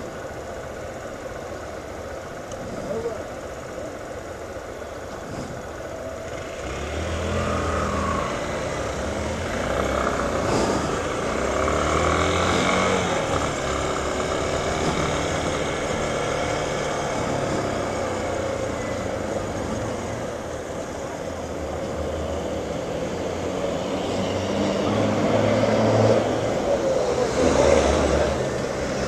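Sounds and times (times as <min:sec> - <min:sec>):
wind and road noise: 0:00.0 - 0:29.0
motorcycle engine accelerating: 0:05.1 - 0:29.0.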